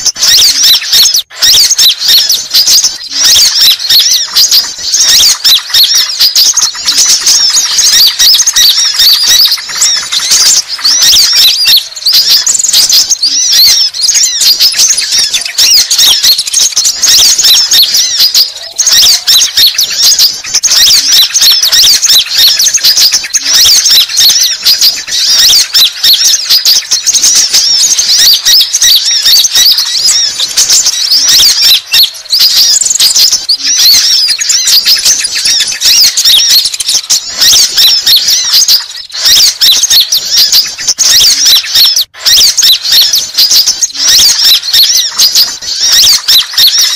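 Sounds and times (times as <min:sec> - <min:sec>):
rapid high-pitched bird chirps: 0:00.0 - 0:46.9.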